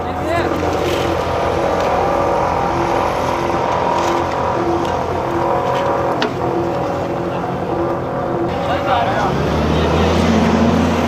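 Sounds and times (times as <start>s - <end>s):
diesel engine running steadily: 0.0s - 11.0s
pulsing low tone: 0.0s - 11.0s.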